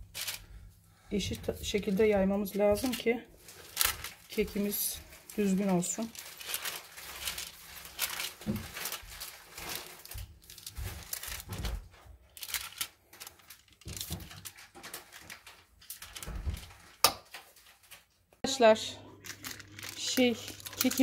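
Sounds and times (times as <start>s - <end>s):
parchment paper rustling: 0.0s - 18.2s, 19.1s - 21.0s.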